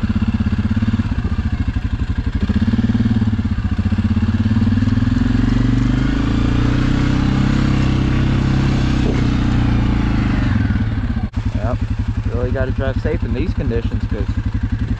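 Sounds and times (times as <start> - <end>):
quad bike engine throbbing: 0.0 - 14.9.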